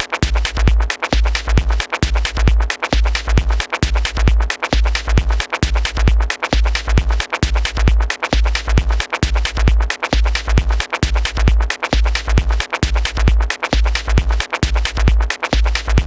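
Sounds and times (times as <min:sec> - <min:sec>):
electronic dance music: 0:00.0 - 0:16.0.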